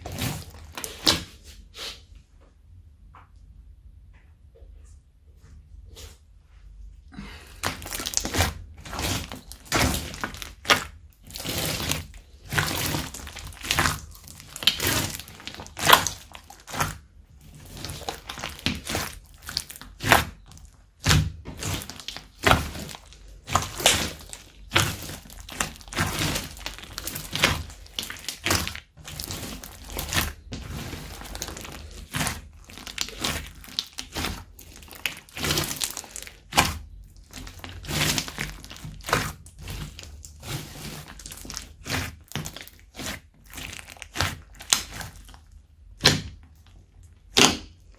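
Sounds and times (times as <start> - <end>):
slime squelching and popping: 0.0 - 1.4, 7.4 - 47.9.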